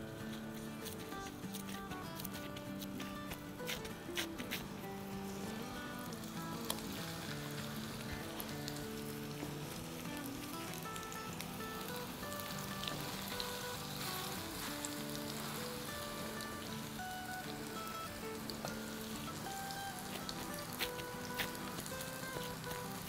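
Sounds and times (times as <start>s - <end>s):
patties sizzling in oil: 0.0s - 23.0s.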